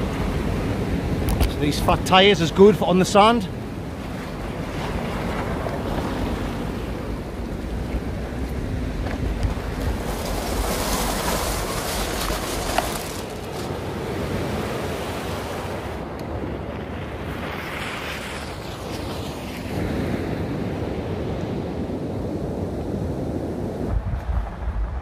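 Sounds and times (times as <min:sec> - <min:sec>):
sea waves breaking on beach: 0:00.0 - 0:23.9
wind buffeting microphone: 0:03.4 - 0:25.0.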